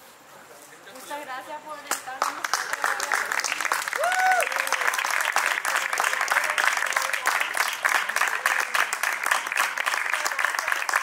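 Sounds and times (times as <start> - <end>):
voices: 0.3 - 11.0
audience applauding: 2.2 - 11.0.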